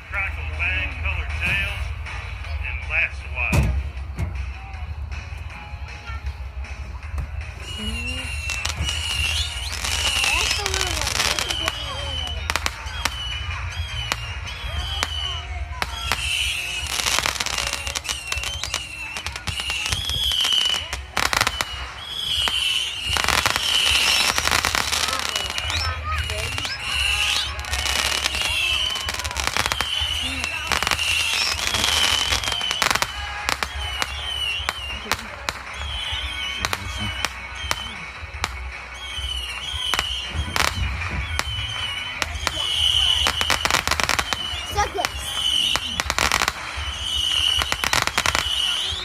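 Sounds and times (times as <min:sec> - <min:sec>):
fireworks bangs and crackles: 0:00.0 - 0:49.0
fireworks whistles: 0:07.3 - 0:49.0.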